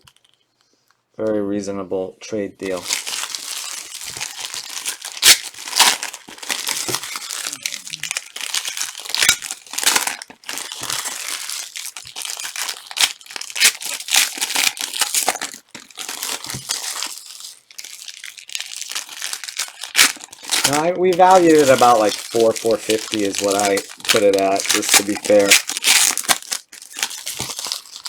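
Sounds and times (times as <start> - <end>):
card pack wrappers crinkling: 0.0 - 0.4, 2.6 - 28.0.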